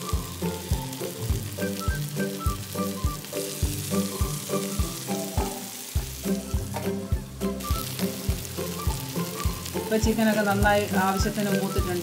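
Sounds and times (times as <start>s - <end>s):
background music with steady beat: 0.0s - 12.0s
chicken sizzling in oil: 0.0s - 12.0s.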